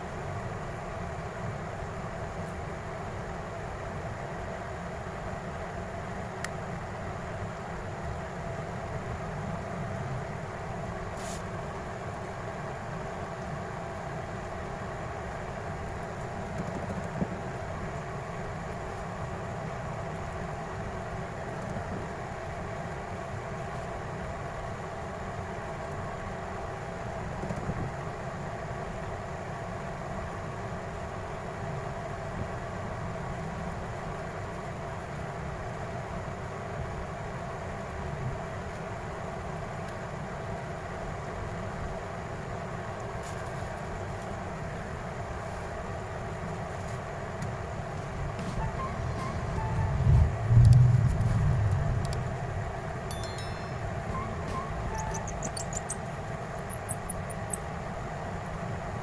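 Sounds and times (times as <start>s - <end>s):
mechanical hum with low rumble: 0.0s - 59.0s.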